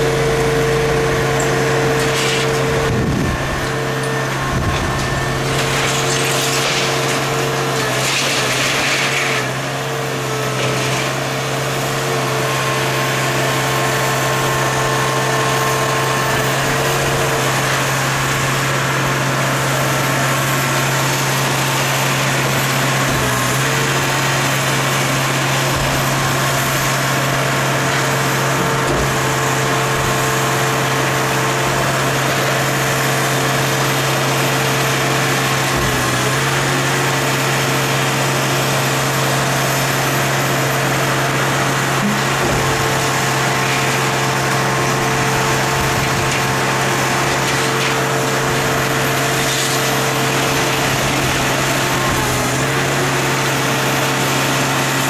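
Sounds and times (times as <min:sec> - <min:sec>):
engine running hydraulics: 0:00.0 - 0:55.0.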